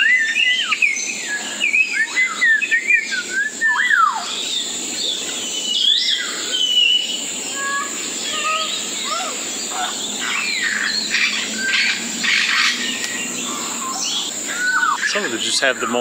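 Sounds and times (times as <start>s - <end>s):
birds whistling calls: 0.0s - 16.0s.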